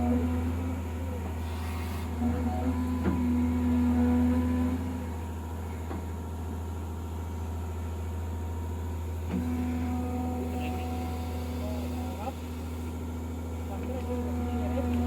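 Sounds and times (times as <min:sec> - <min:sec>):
diesel engine of heavy machinery: 0:00.0 - 0:15.0.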